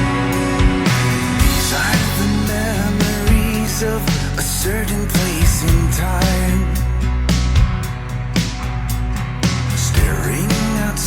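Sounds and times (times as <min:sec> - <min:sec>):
song with sung melody: 0:00.0 - 0:07.7, 0:09.6 - 0:11.0.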